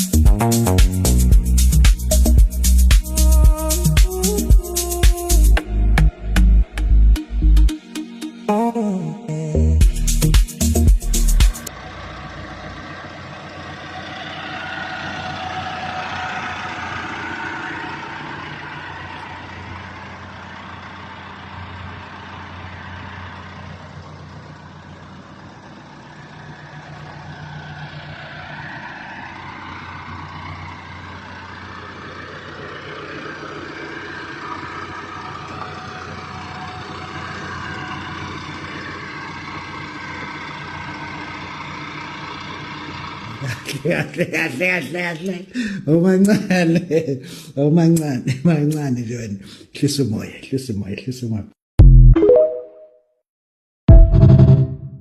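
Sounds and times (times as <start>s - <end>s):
diesel engine running: 0.0s - 7.7s, 9.8s - 47.6s.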